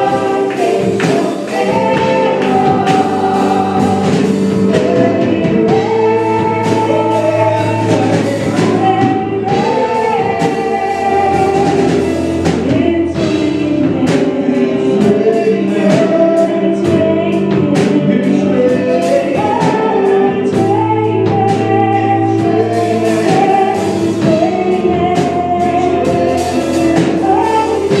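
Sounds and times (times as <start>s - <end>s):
group singing gospel: 0.0s - 28.0s
instrumental accompaniment with beat: 0.0s - 28.0s.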